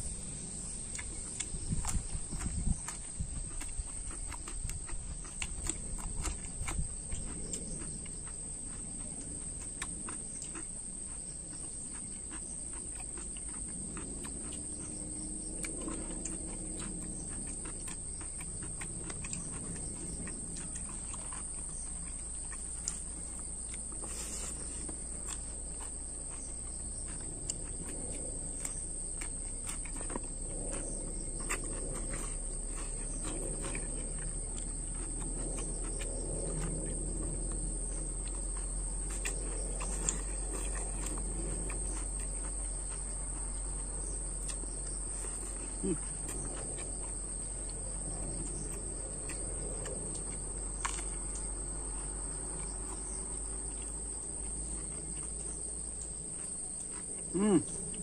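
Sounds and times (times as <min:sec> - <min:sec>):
insects droning: 0:00.0 - 0:58.0
person eating by hand: 0:00.0 - 0:58.0.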